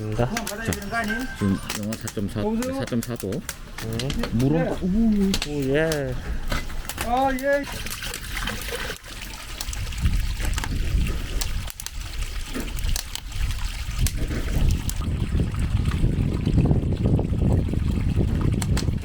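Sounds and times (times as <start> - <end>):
pump rumble: 0.0 - 19.0
water trickling and splashing: 0.0 - 19.0.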